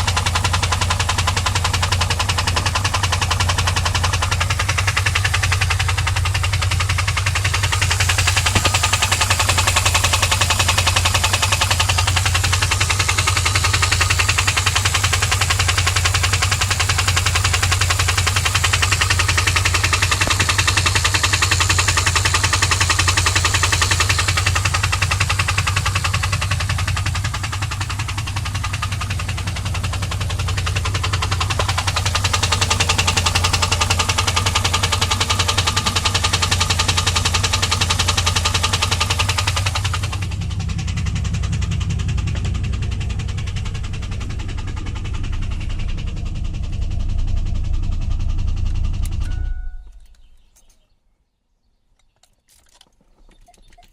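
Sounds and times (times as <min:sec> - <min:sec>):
car engine running with ticking knock: 0:00.0 - 0:50.8.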